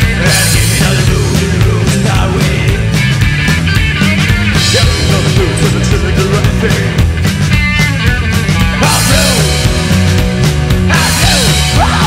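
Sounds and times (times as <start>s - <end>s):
rockabilly band playing live: 0.0s - 12.0s.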